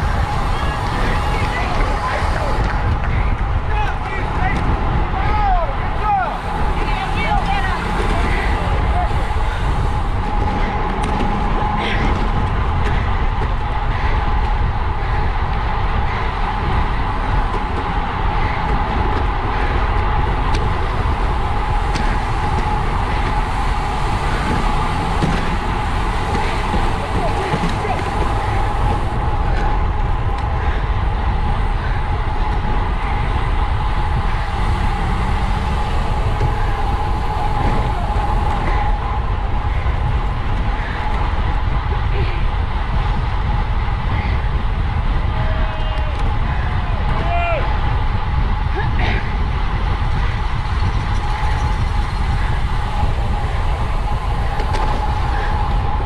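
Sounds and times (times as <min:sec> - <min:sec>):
thin constant whine: 0:00.0 - 0:56.0
wind rushing over microphone: 0:00.0 - 0:56.0.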